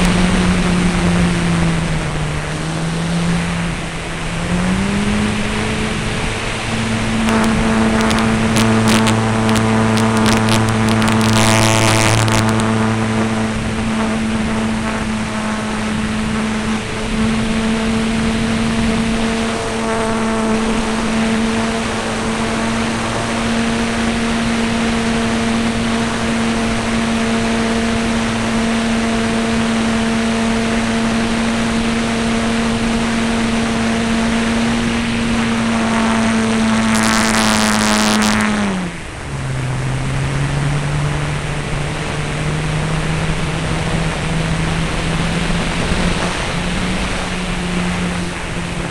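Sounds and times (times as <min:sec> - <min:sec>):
model airplane motor drone: 0:00.0 - 0:48.9.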